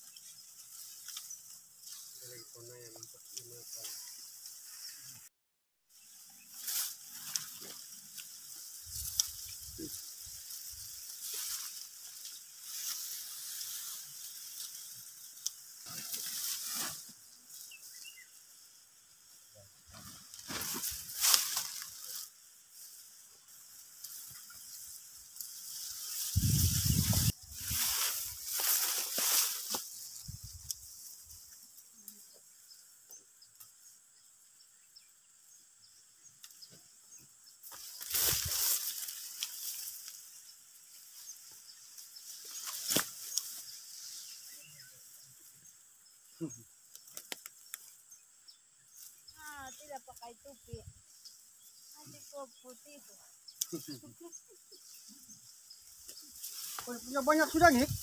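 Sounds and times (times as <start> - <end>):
rice stalks rustling: 0.0 - 5.2, 5.9 - 32.3, 37.6 - 48.1, 48.9 - 58.0.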